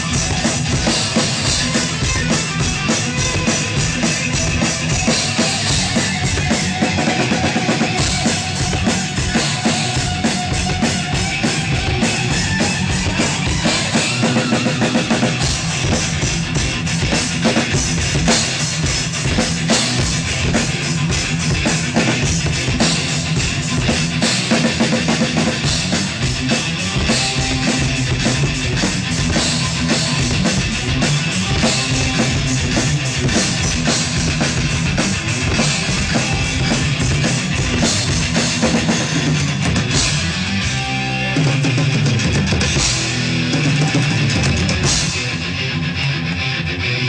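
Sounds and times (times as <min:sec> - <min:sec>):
drum kit rock beat: 0:00.0 - 0:47.0
rock music with electric guitar: 0:00.0 - 0:47.0.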